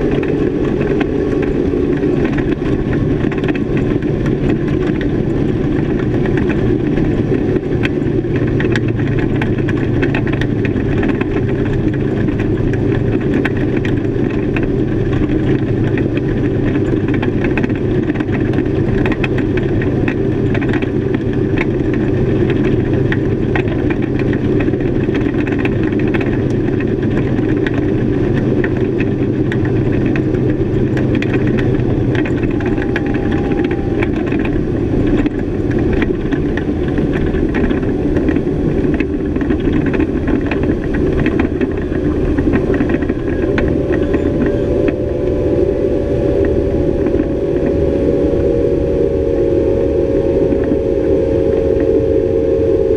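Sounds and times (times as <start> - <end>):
outboard motors running: 0.0 - 52.9.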